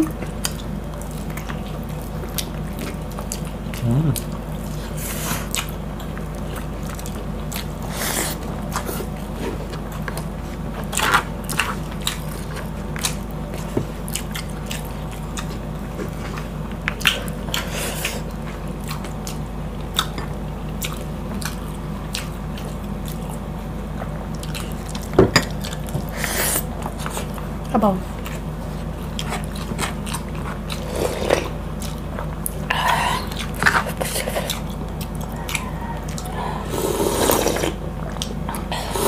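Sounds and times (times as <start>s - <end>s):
chewing and mouth smacks: 0.0s - 4.8s, 5.4s - 36.4s, 37.4s - 38.7s
steady low hum: 0.0s - 39.0s.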